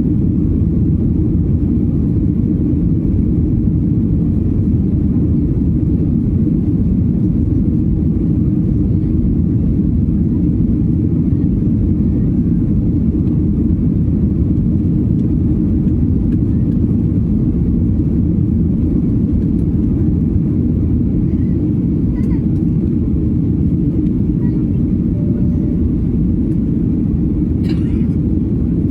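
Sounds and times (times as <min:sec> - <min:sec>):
airplane engines rumbling in cabin: 0:00.0 - 0:28.9.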